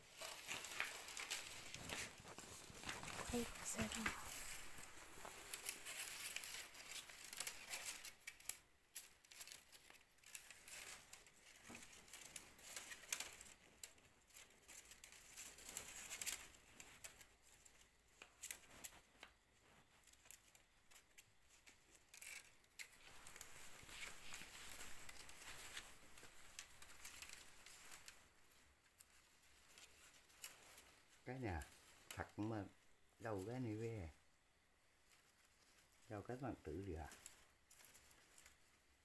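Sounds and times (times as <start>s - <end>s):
dry strips rustling and clicking: 0.0s - 34.2s, 35.0s - 39.0s.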